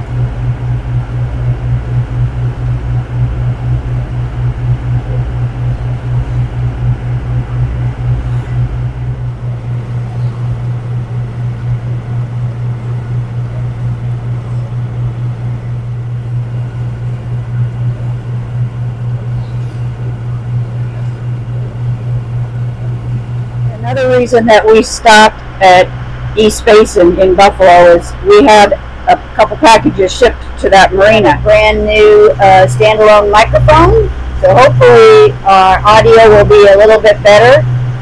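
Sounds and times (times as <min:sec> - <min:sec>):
boat engine low pulsing drone: 0:00.0 - 0:38.0.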